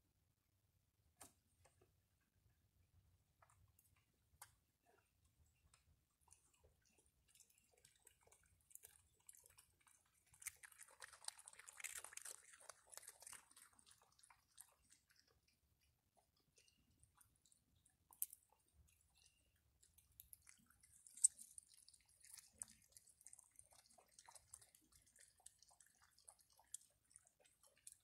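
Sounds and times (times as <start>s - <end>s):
animals chewing dry food: 3.4s - 28.0s.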